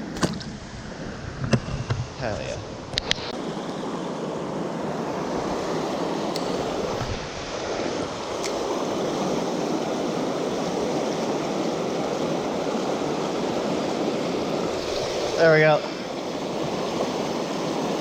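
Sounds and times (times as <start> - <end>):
river rushing over rocks: 3.4 - 18.0.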